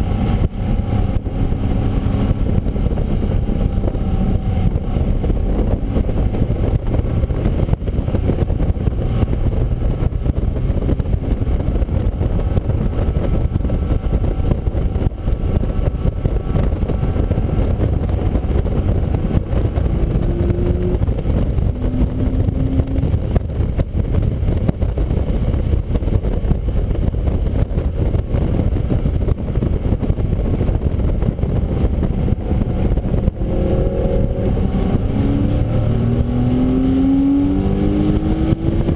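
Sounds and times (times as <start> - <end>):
race car engine and road noise: 0.0 - 38.9.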